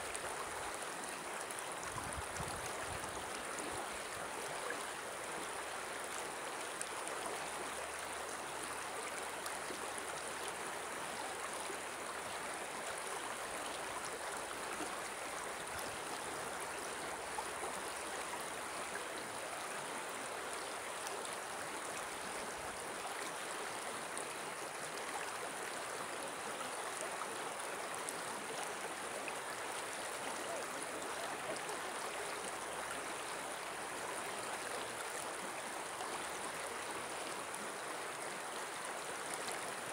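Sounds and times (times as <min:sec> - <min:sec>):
shallow river rushing over stones: 0:00.0 - 0:39.9.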